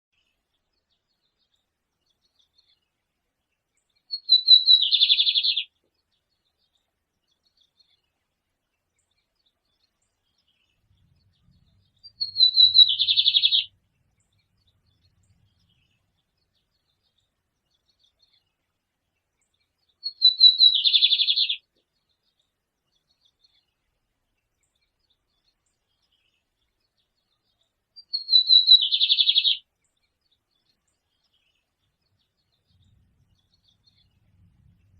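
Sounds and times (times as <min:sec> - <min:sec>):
songbird singing trill: 0:00.2 - 0:34.9.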